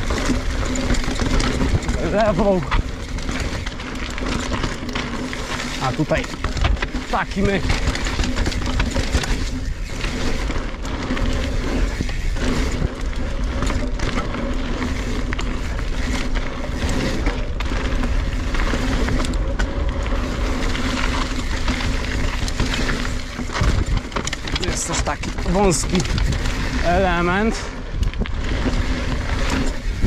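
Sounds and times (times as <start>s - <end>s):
bike rattling and clattering: 0.0s - 30.0s
tyres grating over dirt and rock: 0.0s - 30.0s.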